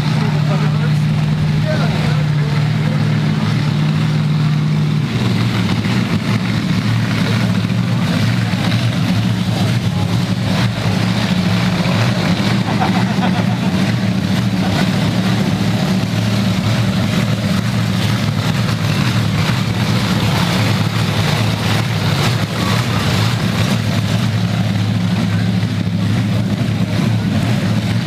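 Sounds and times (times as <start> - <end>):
car engines rumbling: 0.0 - 28.0.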